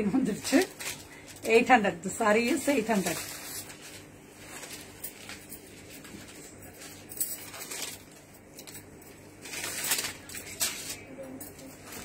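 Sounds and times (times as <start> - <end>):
cloth rustling: 0.1 - 12.0.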